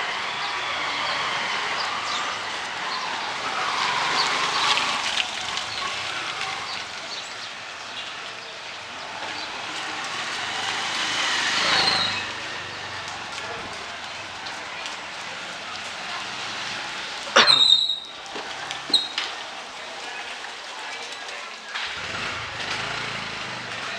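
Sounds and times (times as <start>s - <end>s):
faint passing traffic: 0.0s - 23.9s
rain falling on street: 0.0s - 23.9s
voices: 0.0s - 23.9s.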